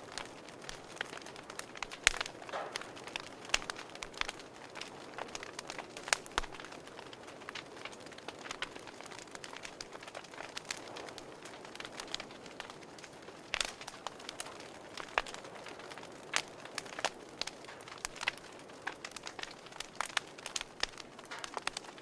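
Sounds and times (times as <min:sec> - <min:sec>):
fire hissing softly: 0:00.0 - 0:22.0
wood fire crackling: 0:00.0 - 0:22.0.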